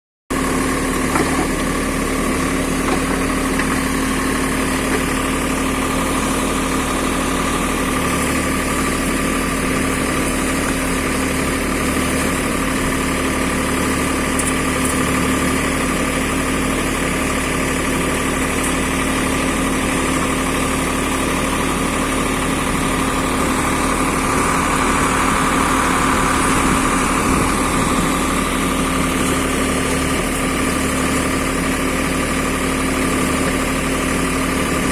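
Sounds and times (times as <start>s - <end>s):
backhoe engine running: 0.3s - 34.9s.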